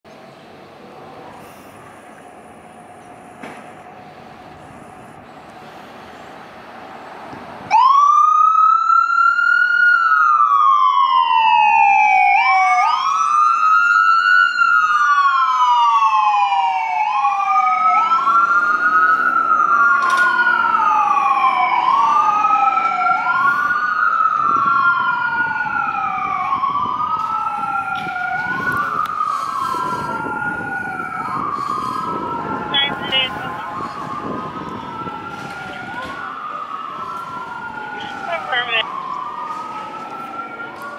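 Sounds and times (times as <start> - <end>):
faint street noise: 0.1 - 40.9
ambulance siren wailing: 7.5 - 40.9.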